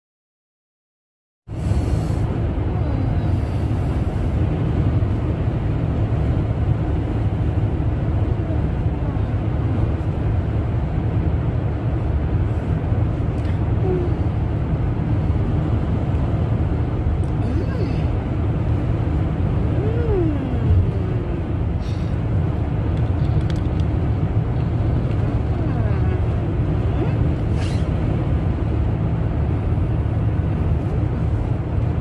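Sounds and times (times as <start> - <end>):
car cabin rumble: 1.5 - 32.0.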